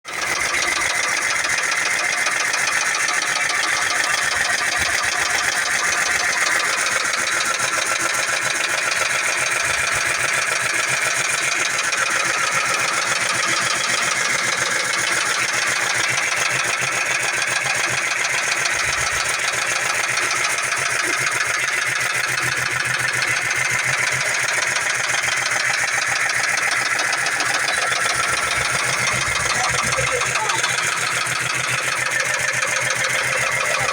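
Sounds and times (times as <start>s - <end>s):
rapid engine knocking: 0.0s - 33.9s
car engine idling: 0.1s - 33.9s.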